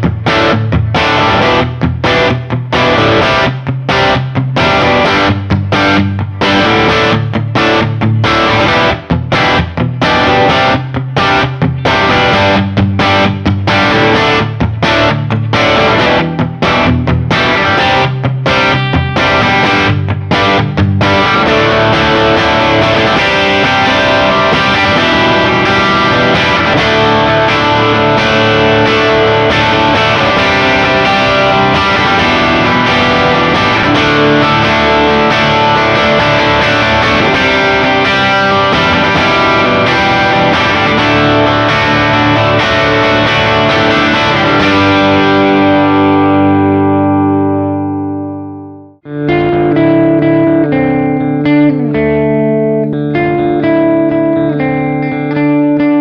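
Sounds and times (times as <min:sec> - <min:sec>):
distorted electric guitar chords: 0:00.0 - 0:56.0.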